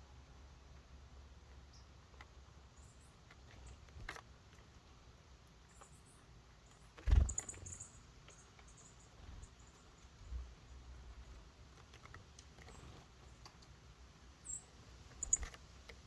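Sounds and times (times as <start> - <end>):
birds tapping at feeder: 1.5 - 16.0.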